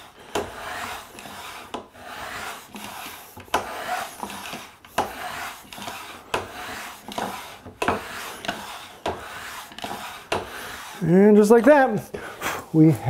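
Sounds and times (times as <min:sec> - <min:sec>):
hand plane shaving wood: 0:00.0 - 0:12.8.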